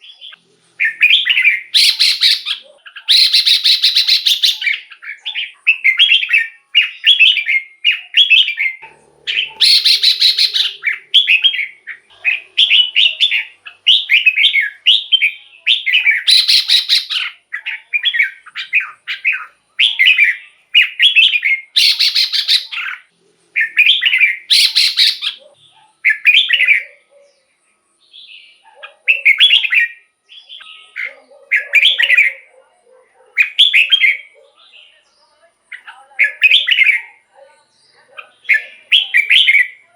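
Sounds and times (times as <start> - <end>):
bird singing whistled phrases: 0.0 - 27.0, 28.1 - 32.5, 33.4 - 34.4, 35.7 - 37.2, 38.4 - 39.8.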